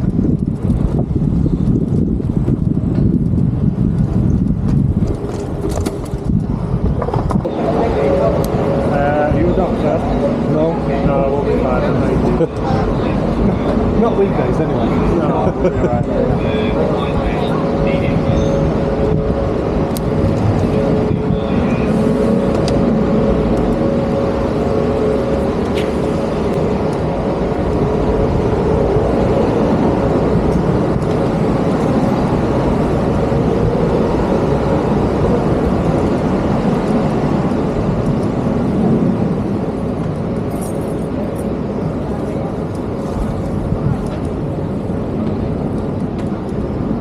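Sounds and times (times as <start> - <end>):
steady hum: 0.0 - 47.0
vehicle engines and tyres: 0.0 - 47.0.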